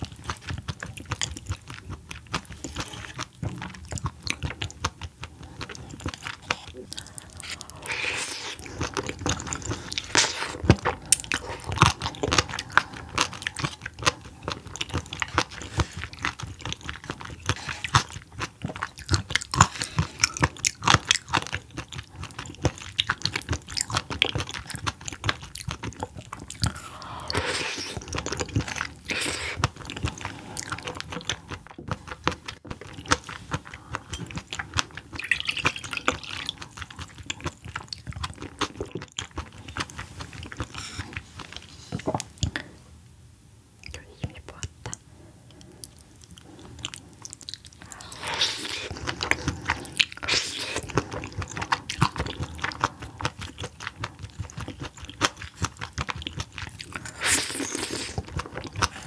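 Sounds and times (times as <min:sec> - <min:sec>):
close chewing and wet mouth sounds: 0:00.0 - 0:42.8, 0:43.7 - 0:59.0.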